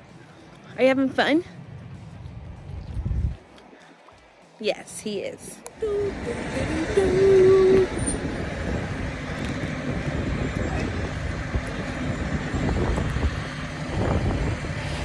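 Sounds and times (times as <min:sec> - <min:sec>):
wind buffeting microphone: 0:00.0 - 0:04.8, 0:05.8 - 0:15.0.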